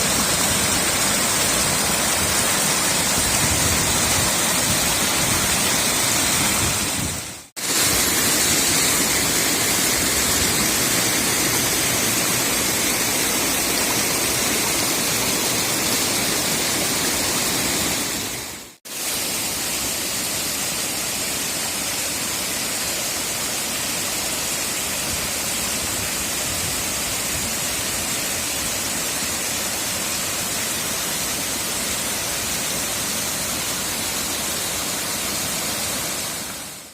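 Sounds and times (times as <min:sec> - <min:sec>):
fast-flowing water rushing: 0:00.0 - 0:36.9.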